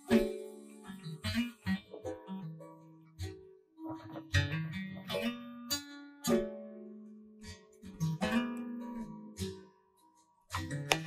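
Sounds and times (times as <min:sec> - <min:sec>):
plucked guitar music: 0:00.0 - 0:11.0.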